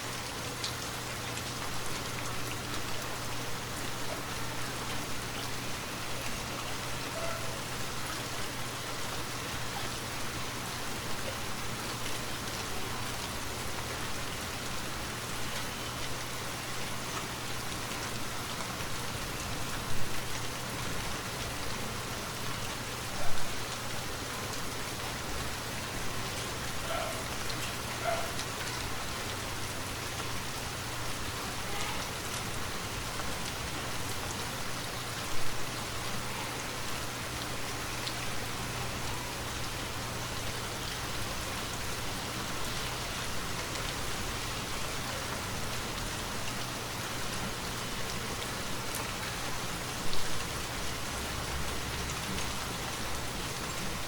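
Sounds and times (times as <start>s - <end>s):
rain pattering on foliage: 0.0s - 54.0s.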